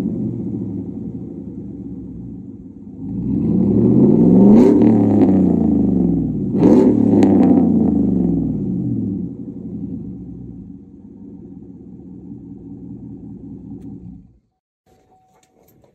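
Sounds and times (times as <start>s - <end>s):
truck engine revving: 0.0s - 14.5s
exhaust crackles: 0.0s - 14.6s.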